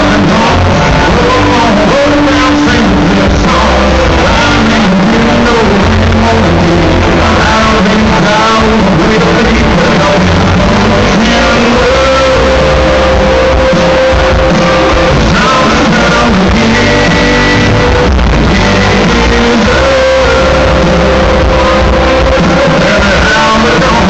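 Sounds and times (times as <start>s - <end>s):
lead vocal singing: 0.0s - 24.0s
live country band playing: 0.0s - 24.0s.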